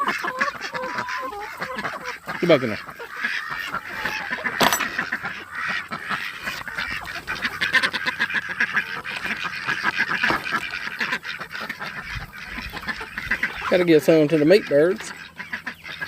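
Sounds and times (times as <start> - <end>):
poultry calling: 0.0 - 16.0.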